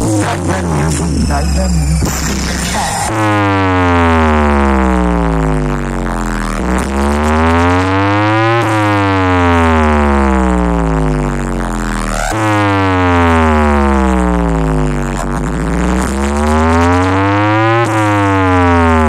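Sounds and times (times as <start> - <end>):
electronic siren tone: 0.0 - 19.0.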